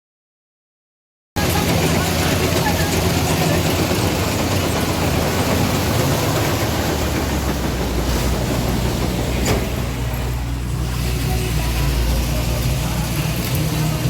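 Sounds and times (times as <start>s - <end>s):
tractor engine drone: 1.4s - 14.0s.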